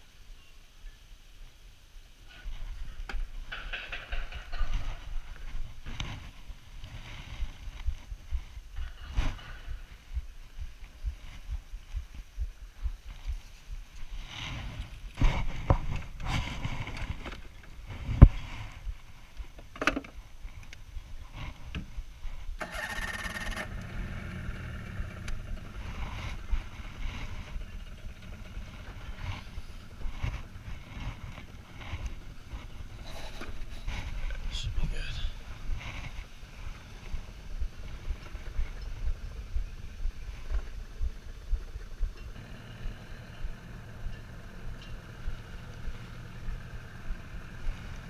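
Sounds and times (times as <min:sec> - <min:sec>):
wind on microphone: 0:02.4 - 0:19.6, 0:24.0 - 0:48.0.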